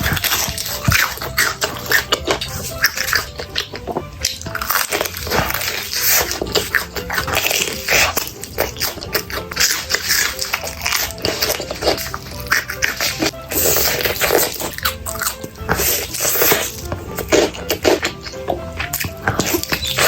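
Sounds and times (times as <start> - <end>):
background music: 0.0 - 20.0
biting and chewing: 0.0 - 20.0.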